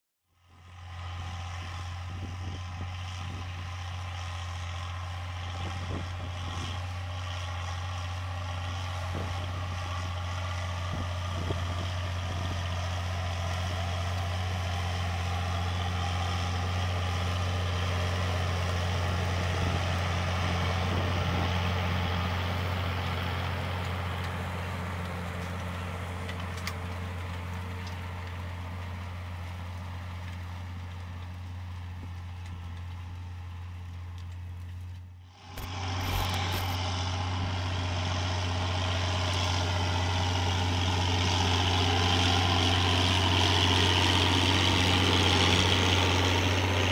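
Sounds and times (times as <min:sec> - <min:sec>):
tractor diesel engine: 0:00.4 - 0:46.9.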